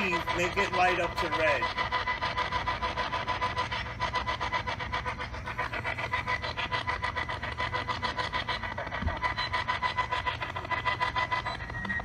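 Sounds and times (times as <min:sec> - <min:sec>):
pulsing static: 0:00.0 - 0:12.0.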